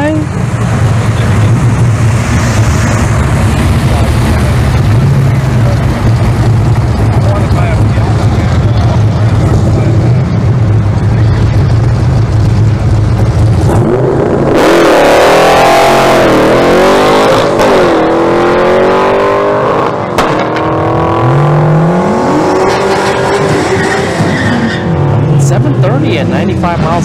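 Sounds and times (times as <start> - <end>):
car engine revving and accelerating: 0.0 - 27.0.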